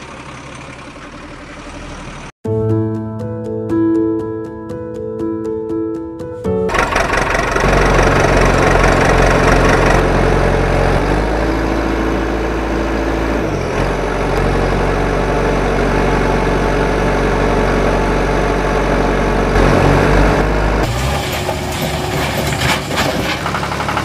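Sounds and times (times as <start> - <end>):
heavy vehicle engine running: 0.0 - 2.4, 6.6 - 24.0.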